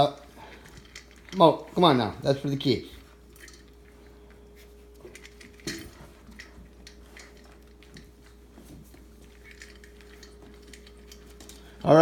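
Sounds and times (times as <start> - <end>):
faint steady hum: 0.0 - 12.0
puppies crunching kibble: 0.0 - 12.0.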